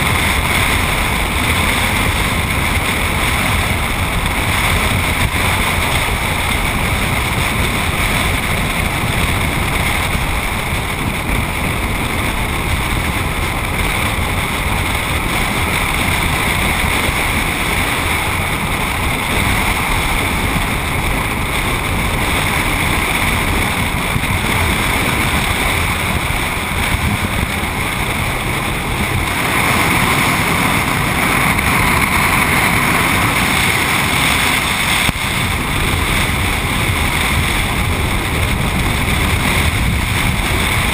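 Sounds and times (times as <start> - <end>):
tyre and road noise: 0.0 - 40.9
wind rushing over microphone: 0.0 - 40.9.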